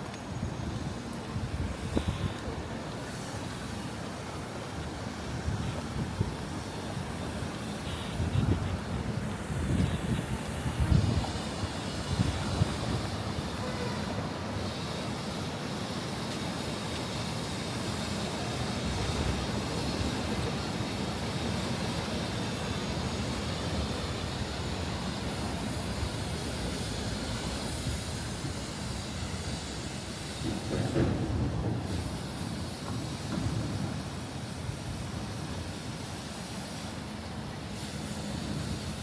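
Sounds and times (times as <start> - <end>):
passing vehicles rumble and hiss: 0.0 - 39.0.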